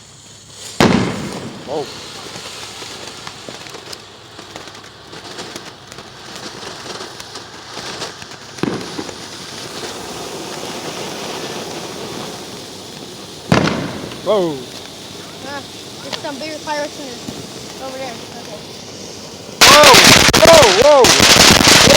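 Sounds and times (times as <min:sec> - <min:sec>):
firework bang: 0:00.0 - 0:21.9
fireworks crackling: 0:00.0 - 0:21.9.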